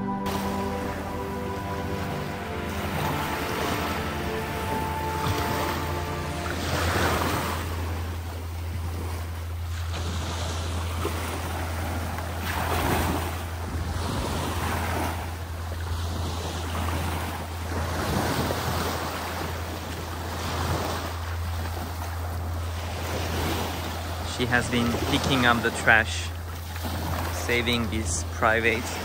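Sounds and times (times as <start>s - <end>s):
low wind rumble on microphone: 0.0s - 29.0s
small waves washing onto beach: 0.3s - 29.0s.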